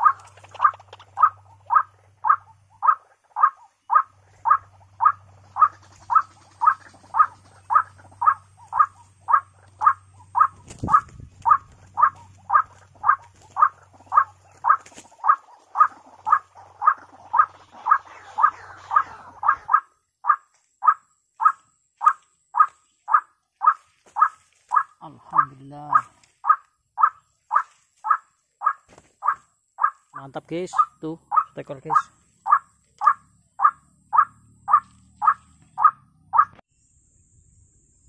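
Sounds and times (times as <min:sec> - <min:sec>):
waterhen call: 0:00.0 - 0:36.6.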